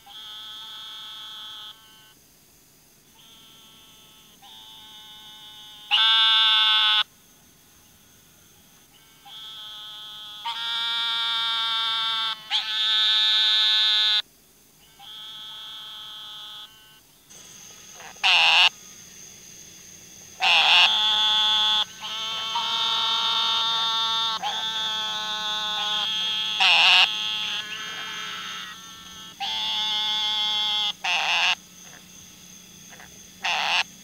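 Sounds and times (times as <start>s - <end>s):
frog calling: 0.0s - 2.1s, 3.1s - 7.1s, 7.9s - 14.2s, 14.8s - 34.0s.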